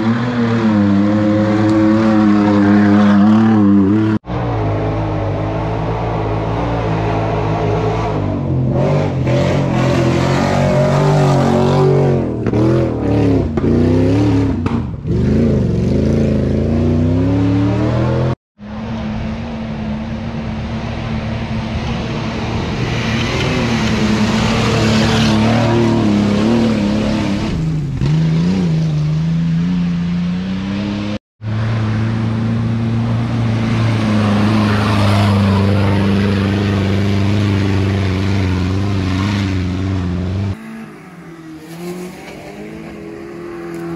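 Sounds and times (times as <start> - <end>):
engine revving: 0.0 - 43.9.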